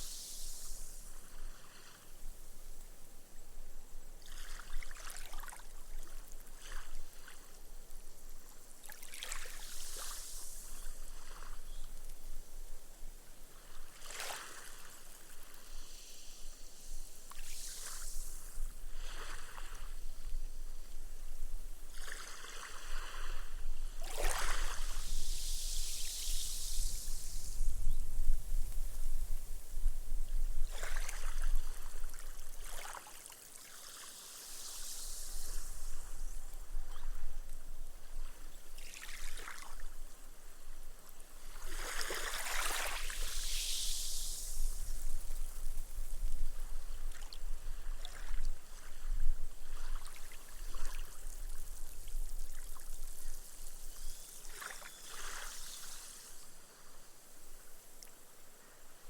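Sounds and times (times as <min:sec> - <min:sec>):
small waves washing on sand: 0:04.2 - 0:12.2, 0:13.4 - 0:21.0, 0:21.9 - 0:27.8, 0:30.6 - 0:57.2.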